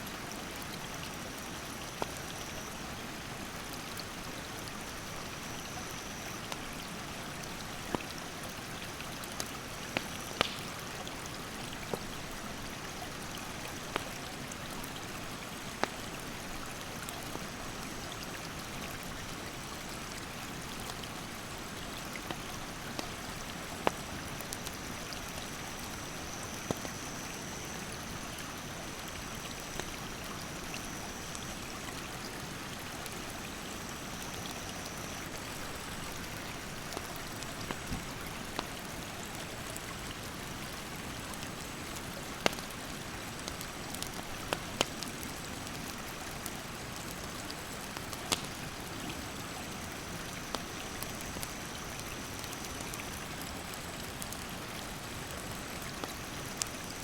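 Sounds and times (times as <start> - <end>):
rushing mountain stream: 0.0 - 57.0
campfire popping and crackling: 7.4 - 57.0.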